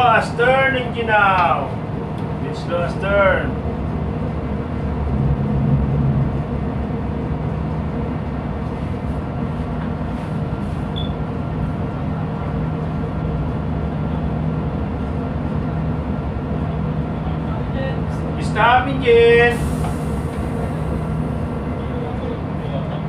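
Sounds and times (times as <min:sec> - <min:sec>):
ship engine low drone: 0:00.0 - 0:23.0.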